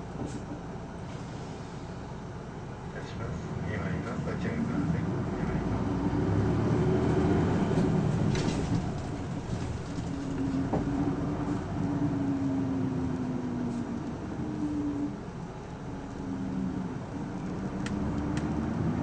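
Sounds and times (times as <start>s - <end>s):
bus diesel engine hum: 0.0s - 19.0s
road noise: 0.0s - 19.0s.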